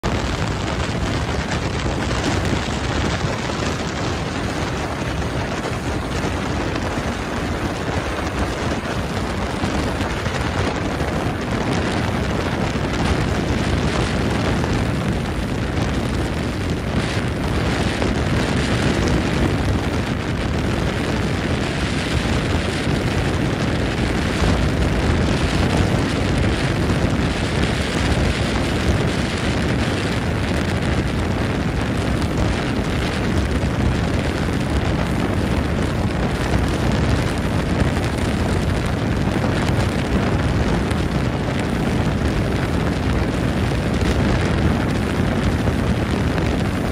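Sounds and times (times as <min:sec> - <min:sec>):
boat running and water noise: 0:00.0 - 0:46.9
wind buffeting microphone: 0:00.0 - 0:46.9.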